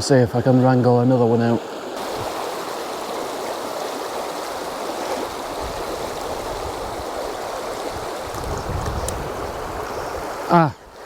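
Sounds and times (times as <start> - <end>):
river babbling over stones: 0.4 - 11.0.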